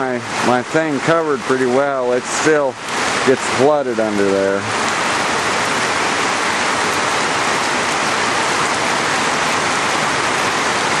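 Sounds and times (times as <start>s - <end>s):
steady rain splashing: 0.0s - 11.0s.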